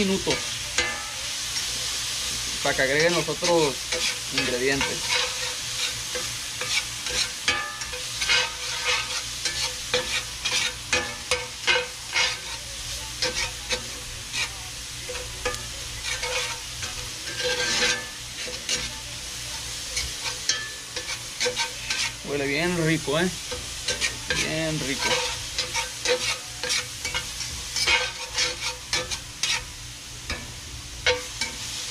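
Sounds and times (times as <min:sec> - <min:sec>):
food sizzling in oil: 0:00.0 - 0:31.9
metal spatula scraping a pan: 0:00.0 - 0:31.9.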